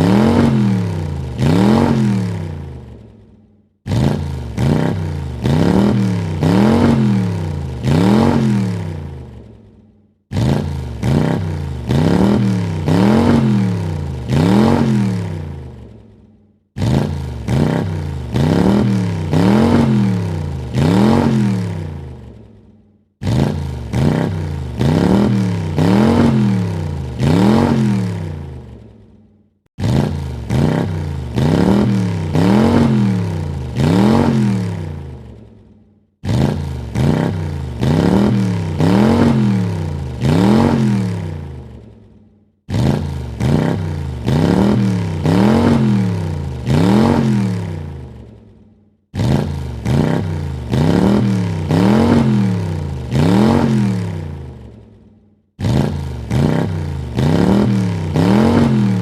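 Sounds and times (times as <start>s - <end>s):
car engine revving: 0.0s - 3.1s, 3.9s - 9.5s, 10.3s - 16.0s, 16.8s - 22.6s, 23.2s - 28.9s, 29.8s - 35.4s, 36.2s - 41.9s, 42.7s - 48.4s, 49.2s - 54.8s, 55.6s - 59.0s.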